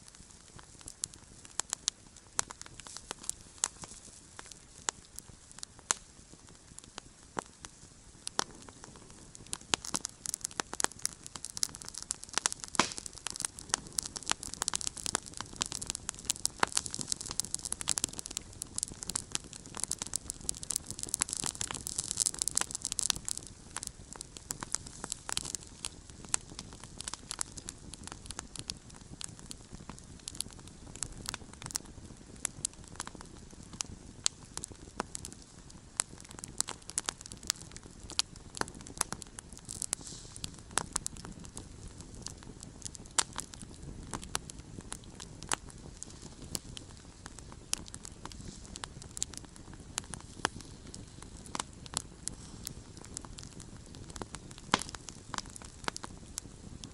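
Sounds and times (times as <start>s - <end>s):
campfire crackling and popping: 0.0s - 56.9s
hiss of flame: 0.0s - 56.9s.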